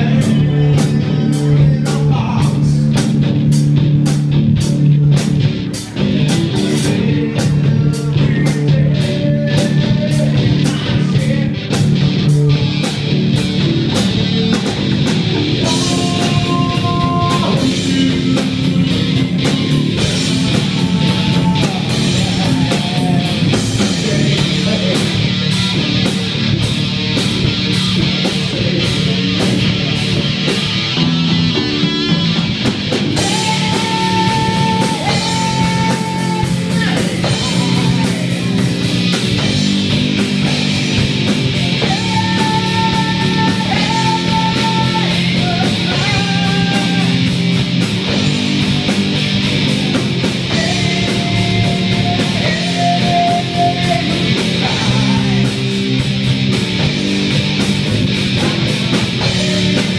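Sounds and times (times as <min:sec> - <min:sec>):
drum kit fast beat: 0:00.0 - 0:59.9
electric guitar through amp: 0:00.0 - 0:59.9.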